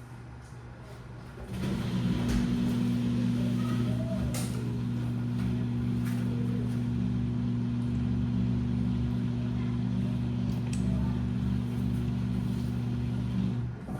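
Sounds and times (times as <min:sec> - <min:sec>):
washing machine humming: 0:00.0 - 0:13.9.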